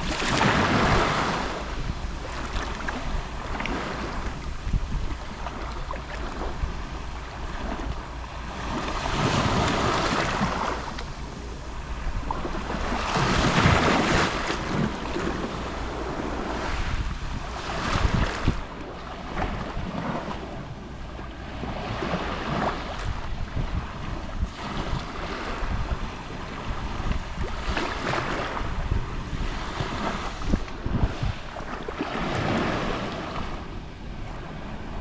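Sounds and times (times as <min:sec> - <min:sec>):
sea waves lapping on shore: 0:00.0 - 0:35.0
wind rumble on microphone: 0:00.0 - 0:35.0.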